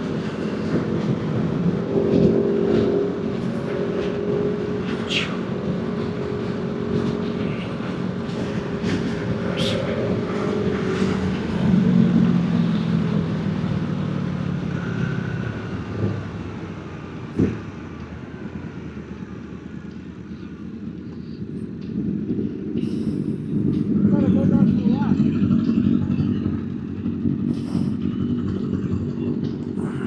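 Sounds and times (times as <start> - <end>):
road vehicle rushing noise: 0.0 - 30.0.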